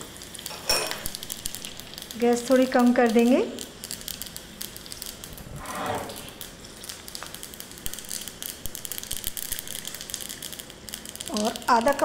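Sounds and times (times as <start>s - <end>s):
seeds spluttering in hot oil: 0.0s - 5.5s, 6.1s - 12.0s.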